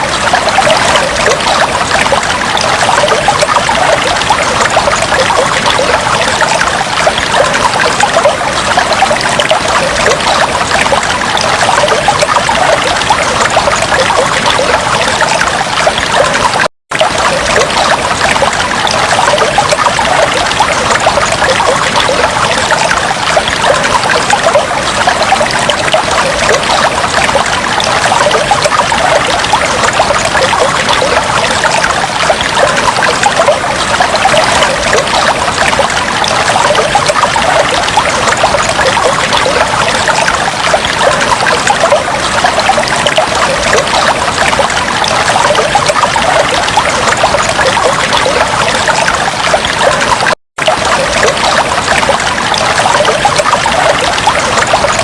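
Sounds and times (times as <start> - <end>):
water trickling in fish tank: 0.0 - 55.0.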